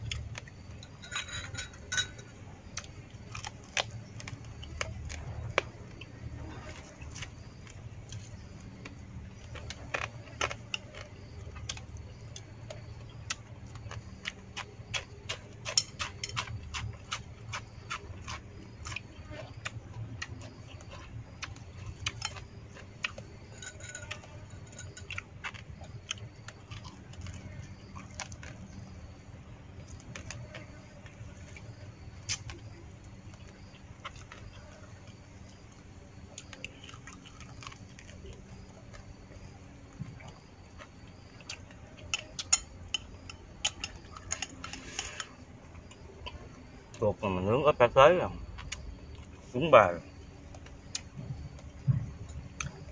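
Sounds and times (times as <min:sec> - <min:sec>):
chewing crunches: 0:00.0 - 0:47.0, 0:48.4 - 0:52.9.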